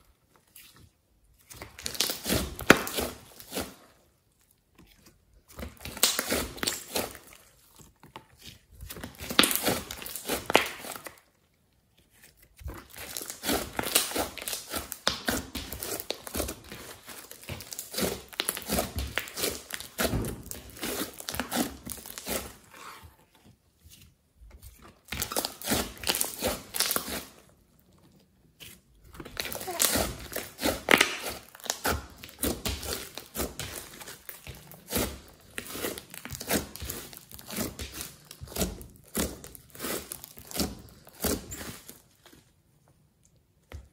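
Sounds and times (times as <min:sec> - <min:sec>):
slime crackling and popping: 0:01.3 - 0:03.8, 0:05.4 - 0:11.3, 0:12.1 - 0:22.7, 0:24.9 - 0:27.6, 0:28.6 - 0:42.0.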